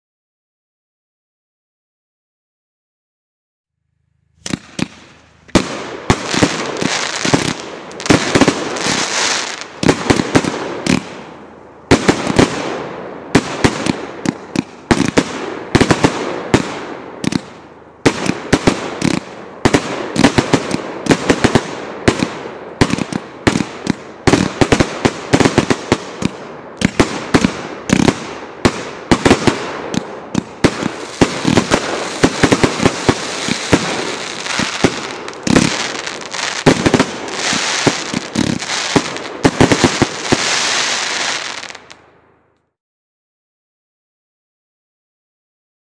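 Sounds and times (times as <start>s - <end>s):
fireworks reports and crackling: 4.4s - 42.0s.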